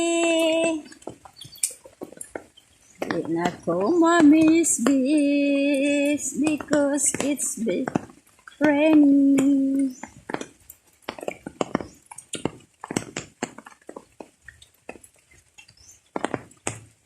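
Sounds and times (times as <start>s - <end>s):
rainwater dripping: 0.0s - 17.0s.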